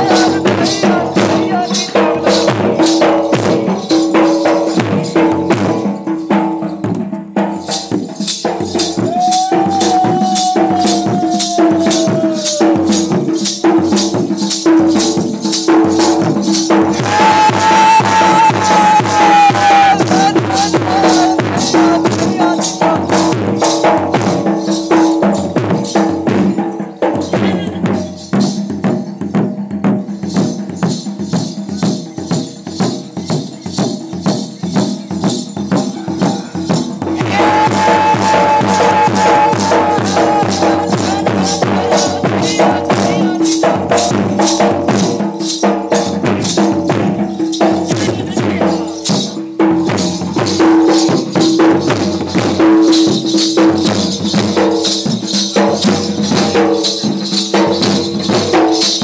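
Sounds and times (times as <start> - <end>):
barrel drum beaten with stick: 0.0 - 59.0.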